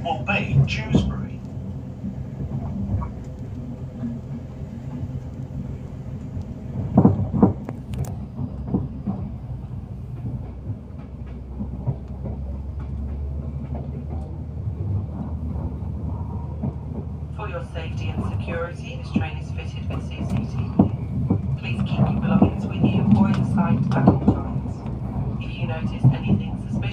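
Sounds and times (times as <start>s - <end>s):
train running rumble: 0.0s - 26.9s
wheels clattering over rail joints: 0.5s - 26.9s.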